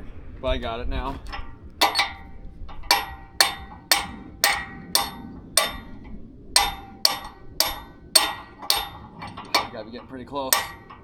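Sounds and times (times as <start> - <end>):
hammer striking steel: 1.3 - 11.0.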